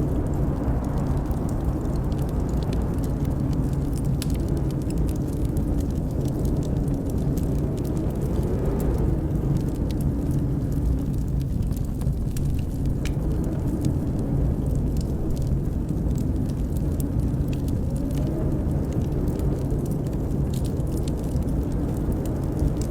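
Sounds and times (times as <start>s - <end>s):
blizzard wind rumbling: 0.0s - 22.9s
wood fire crackling: 0.0s - 22.9s.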